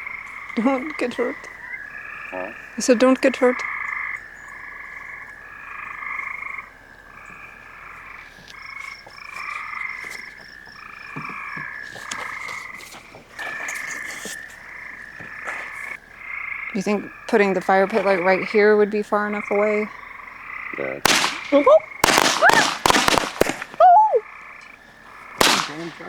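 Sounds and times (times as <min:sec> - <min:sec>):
frogs calling: 0:00.0 - 0:26.0.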